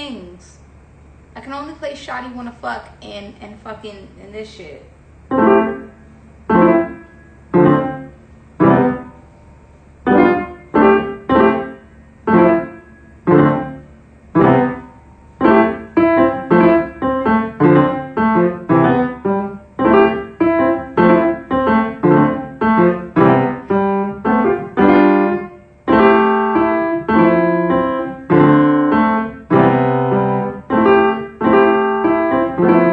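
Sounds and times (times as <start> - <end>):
piano chords: 5.0 - 32.9.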